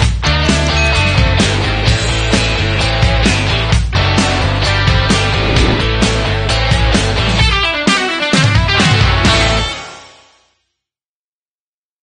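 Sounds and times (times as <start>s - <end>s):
rock music with guitar: 0.0s - 9.9s.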